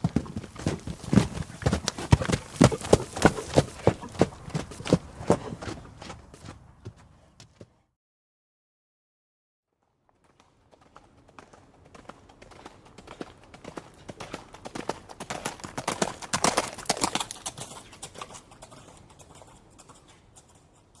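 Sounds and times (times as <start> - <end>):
horse hooves clip-clopping: 0.0 - 7.7, 10.1 - 21.0.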